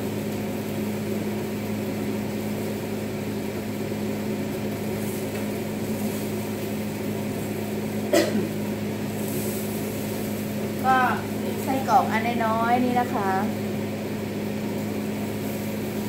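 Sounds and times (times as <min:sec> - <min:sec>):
sausages sizzling in pans: 0:00.0 - 0:16.0
vent fan humming: 0:00.0 - 0:16.0.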